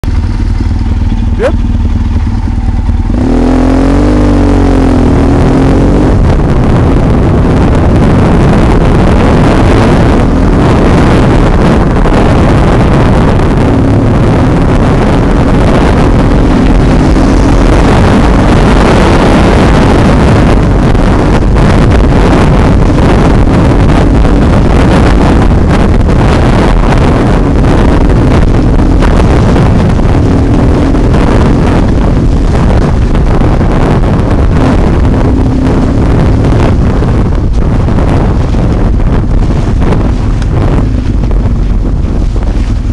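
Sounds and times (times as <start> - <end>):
motorcycle engine running: 0.0 - 42.9
wind noise on microphone: 0.0 - 42.9.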